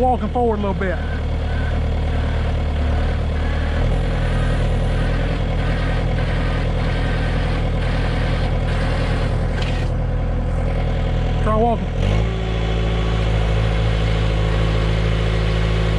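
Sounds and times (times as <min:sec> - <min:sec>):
skid steer diesel engine: 0:00.0 - 0:15.9
tow truck engine running: 0:00.0 - 0:15.9.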